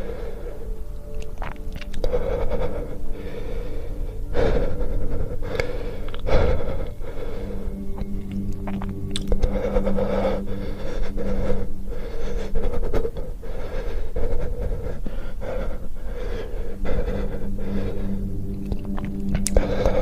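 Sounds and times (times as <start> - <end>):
person panting and gasping: 0.0 - 0.8, 1.9 - 8.4, 9.2 - 20.0
low hum: 0.0 - 20.0.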